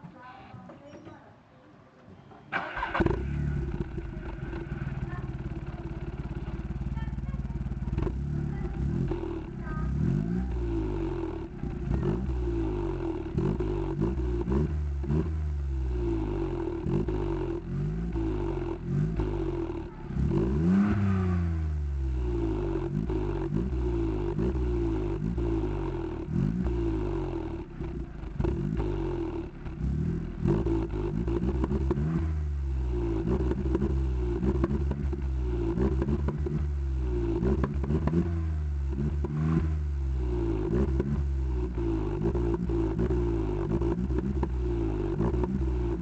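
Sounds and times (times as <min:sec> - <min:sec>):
car engine revving: 0:02.6 - 0:46.0.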